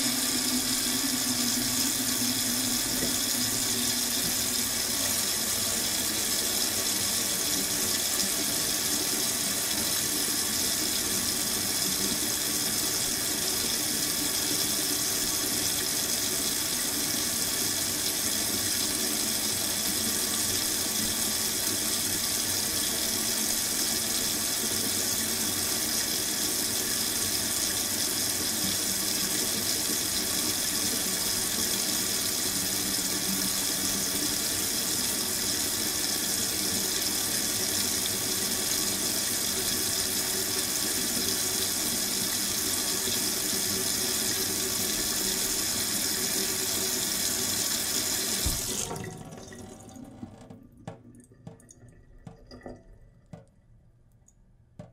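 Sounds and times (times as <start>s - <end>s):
water running from faucet: 0.0s - 50.6s.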